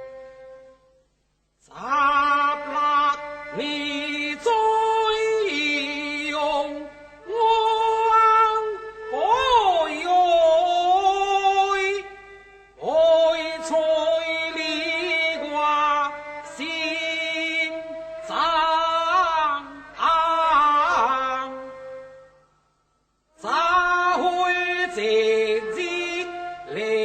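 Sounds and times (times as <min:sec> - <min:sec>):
person singing opera: 0:01.7 - 0:22.2, 0:23.4 - 0:27.0.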